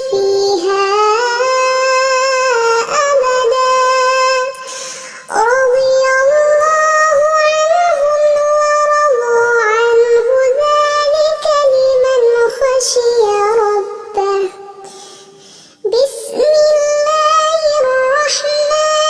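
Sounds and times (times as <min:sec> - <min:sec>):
person reciting melodically: 0:00.0 - 0:19.0.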